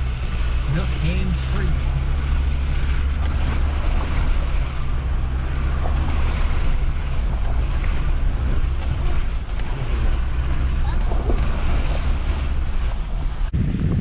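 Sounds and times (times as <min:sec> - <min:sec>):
tyres on wet ground: 0:00.0 - 0:13.6
diesel engine droning: 0:00.0 - 0:14.0.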